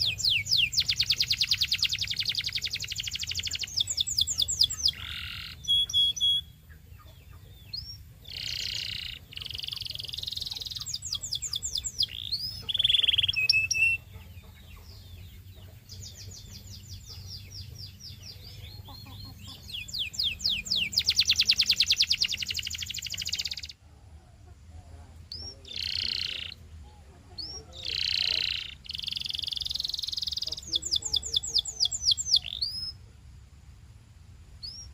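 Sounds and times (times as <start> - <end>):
canary singing trills: 0.0 - 33.2, 34.5 - 34.9
faint low hum: 0.0 - 34.9.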